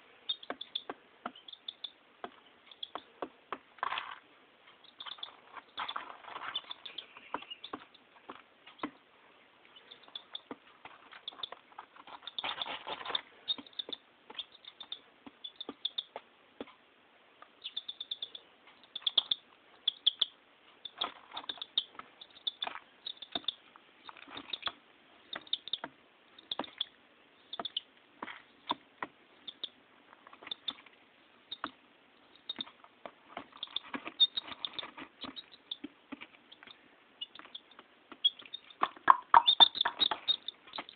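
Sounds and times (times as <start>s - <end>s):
rustle: 0.0s - 40.9s
beak tapping: 0.3s - 4.1s, 4.7s - 9.0s, 9.7s - 16.8s, 17.4s - 30.9s, 31.5s - 40.9s.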